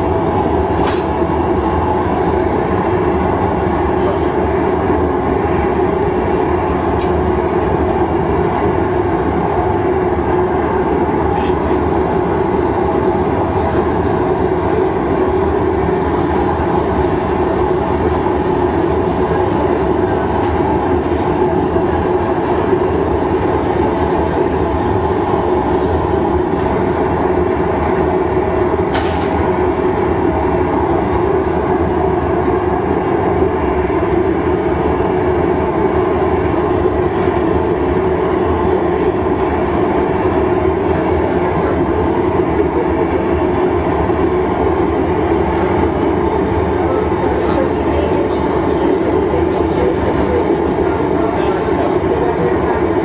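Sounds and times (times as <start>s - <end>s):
furnace roaring: 0.0s - 53.0s.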